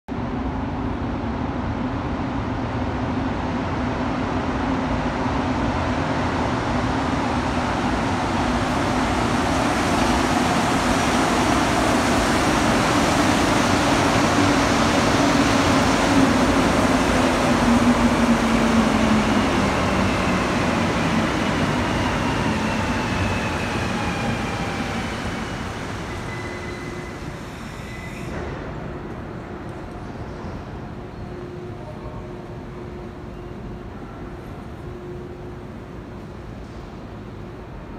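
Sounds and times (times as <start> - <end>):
train rumbling into station: 0.1 - 37.9.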